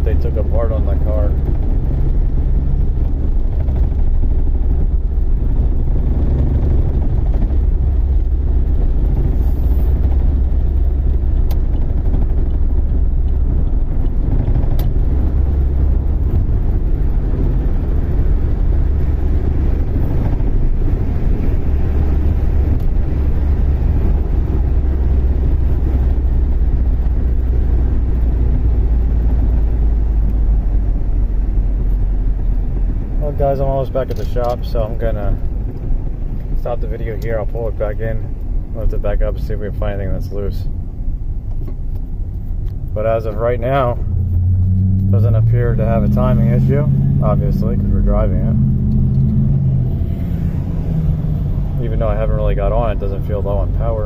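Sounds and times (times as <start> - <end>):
car engine running: 0.0 - 54.0
tyre road noise: 0.0 - 54.0
wind noise: 0.0 - 54.0.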